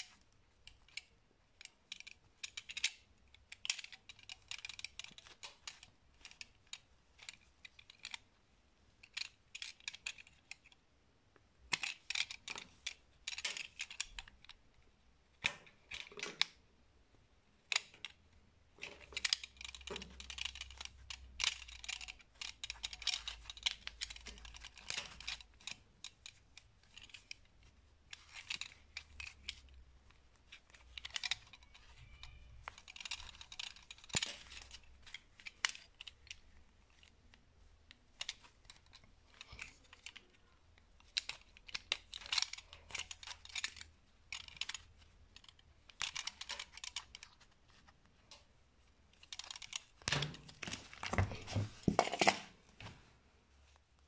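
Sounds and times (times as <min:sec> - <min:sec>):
fingers bending thin wire: 0:00.0 - 0:10.8, 0:11.6 - 0:16.7, 0:17.6 - 0:51.6.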